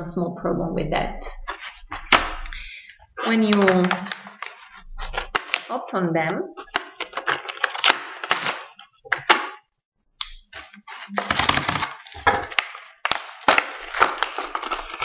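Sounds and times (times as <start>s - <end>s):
plastic packaging crackling: 1.3s - 5.8s, 6.5s - 9.7s, 10.5s - 15.0s.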